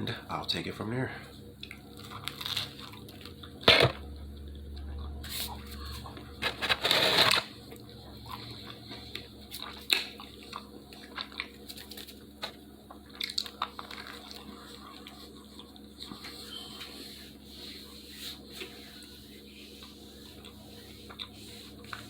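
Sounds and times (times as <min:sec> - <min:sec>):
person chewing food: 0:01.5 - 0:17.4, 0:18.1 - 0:22.0.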